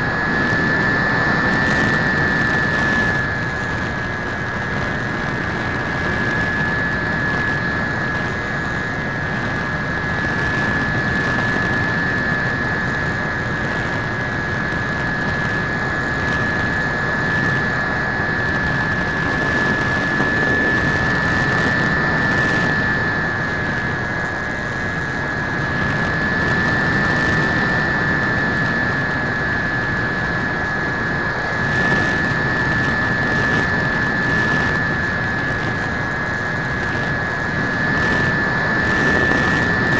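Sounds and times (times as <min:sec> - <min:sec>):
electric motor whine: 0:00.0 - 0:39.9
rushing wind noise: 0:00.0 - 0:39.9.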